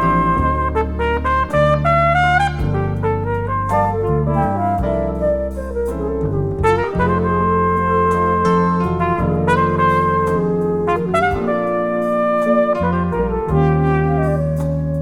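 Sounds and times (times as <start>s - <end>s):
horns playing melody: 0.0s - 15.0s
steady bass line: 0.0s - 15.0s.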